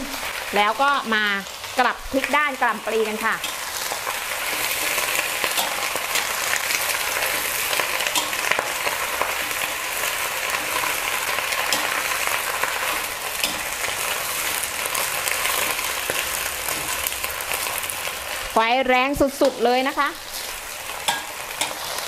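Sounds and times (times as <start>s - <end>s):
cabbage sizzling in hot oil: 0.0s - 22.0s
spatula scraping a wok: 2.6s - 18.6s, 19.2s - 22.0s.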